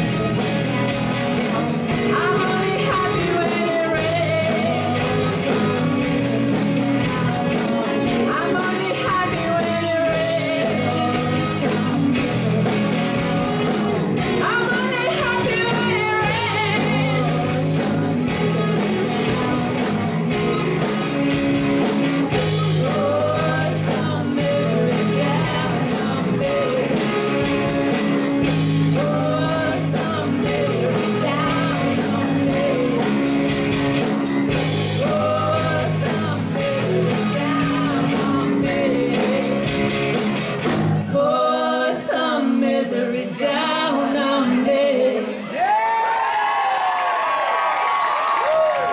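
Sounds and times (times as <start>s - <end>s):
person singing: 0.0s - 40.4s, 41.0s - 45.8s
rock band playing: 0.0s - 41.2s.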